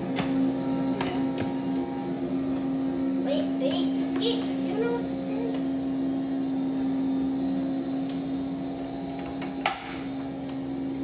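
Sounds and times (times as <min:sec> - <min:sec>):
electric appliance hum: 0:00.0 - 0:11.0.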